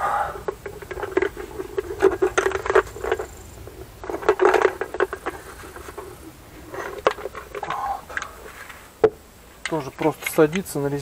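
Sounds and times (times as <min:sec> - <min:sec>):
small plastic parts clicking and rattling: 0:00.4 - 0:08.8, 0:09.6 - 0:11.0.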